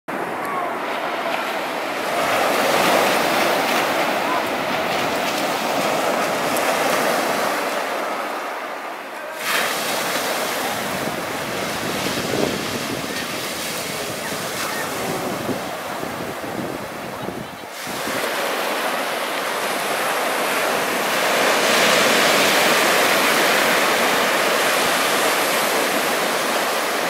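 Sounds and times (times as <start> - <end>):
ocean surf breaking on beach: 0.1 - 27.0.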